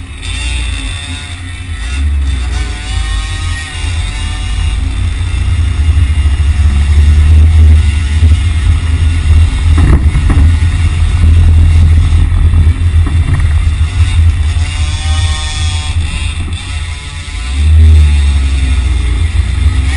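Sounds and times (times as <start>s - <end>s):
vehicle road noise rumble: 0.0s - 19.9s.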